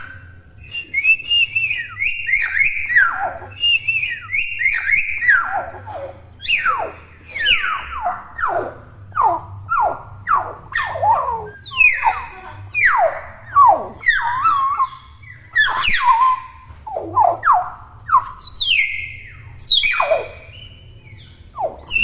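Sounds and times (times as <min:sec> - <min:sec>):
myna whistling calls: 0:00.0 - 0:22.0.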